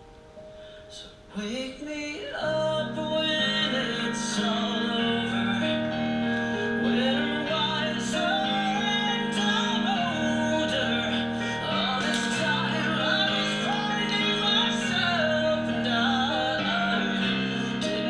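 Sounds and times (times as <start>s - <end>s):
person singing solo: 0.8s - 18.0s
sustained chords accompaniment: 2.8s - 18.0s.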